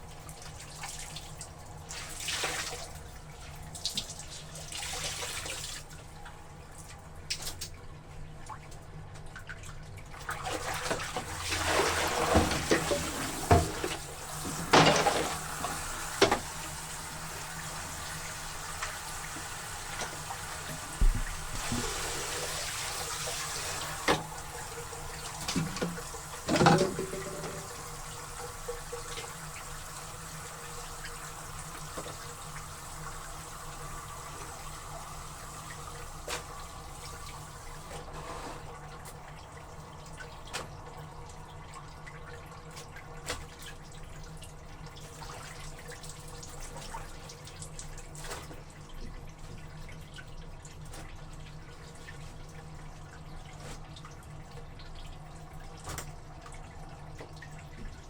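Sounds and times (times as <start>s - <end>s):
tap water running into basin: 0.0s - 7.6s, 8.5s - 58.0s.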